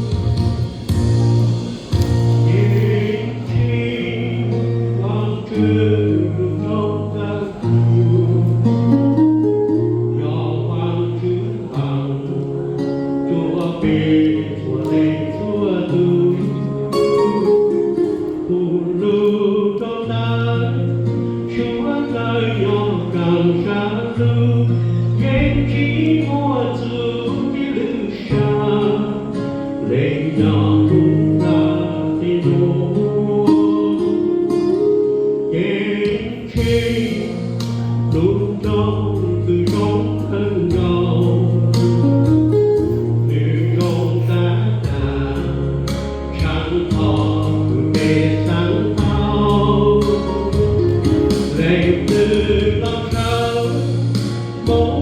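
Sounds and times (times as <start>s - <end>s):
guitar: 0.0s - 55.0s
held bass notes: 0.0s - 55.0s
congregation singing a hymn: 1.1s - 8.8s, 10.1s - 34.3s, 35.5s - 41.8s, 42.8s - 55.0s.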